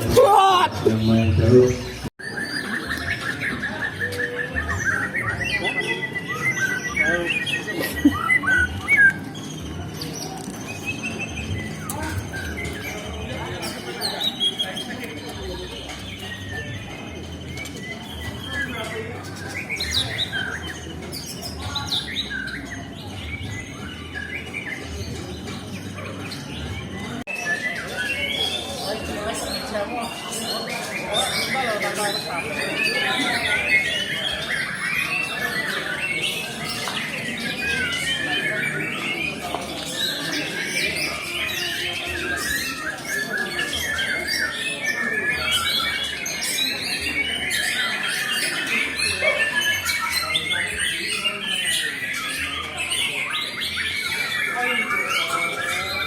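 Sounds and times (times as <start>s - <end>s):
bird whistling and chirping: 0.0s - 56.0s.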